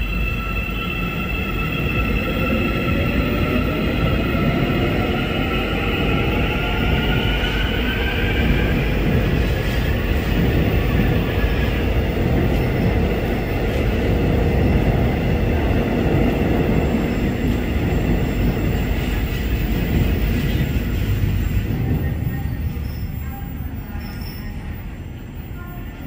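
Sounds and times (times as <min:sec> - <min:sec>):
train rumbling over rails: 0:00.0 - 0:26.0.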